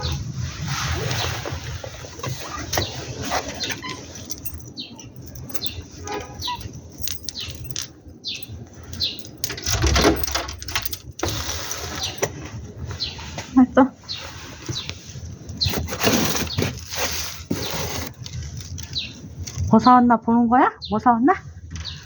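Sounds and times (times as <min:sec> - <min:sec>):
rustling: 0:00.0 - 0:19.7
birds chirping: 0:01.0 - 0:22.0.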